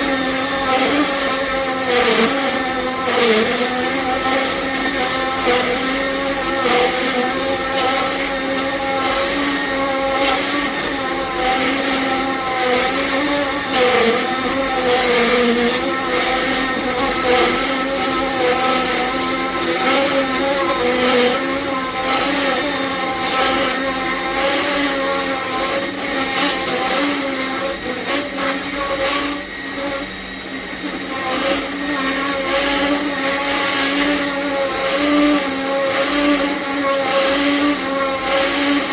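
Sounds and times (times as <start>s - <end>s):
juicer motor humming whine: 0.0s - 38.9s.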